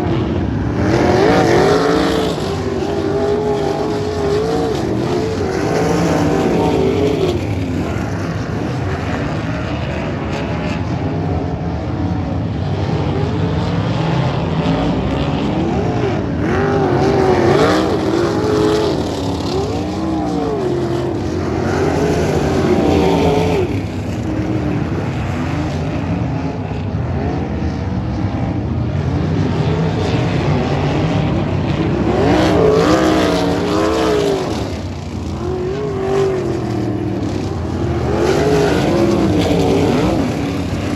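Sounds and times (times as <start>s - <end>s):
race car engines passing: 0.0s - 40.9s.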